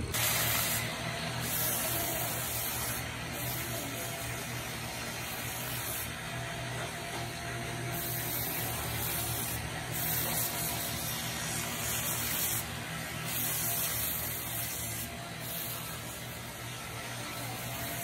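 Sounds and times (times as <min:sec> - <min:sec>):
steel hissing on grinder belt: 0:00.0 - 0:18.0.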